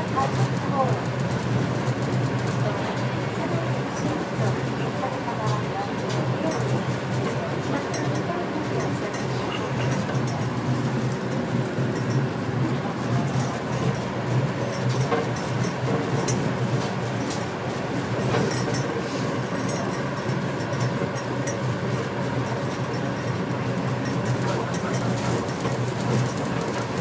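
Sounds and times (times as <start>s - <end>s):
train running gear hum: 0.0s - 27.0s.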